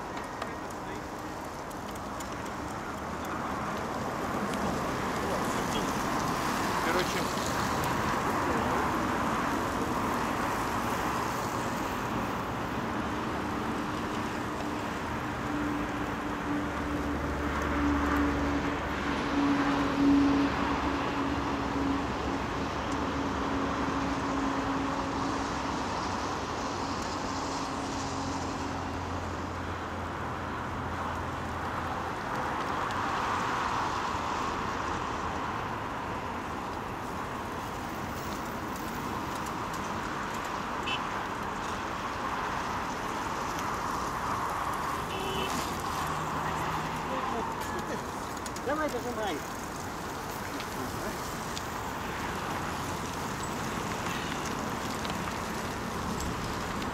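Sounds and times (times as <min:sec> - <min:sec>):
road traffic noise: 0:00.0 - 0:56.9
vehicle engine humming: 0:00.0 - 0:56.9.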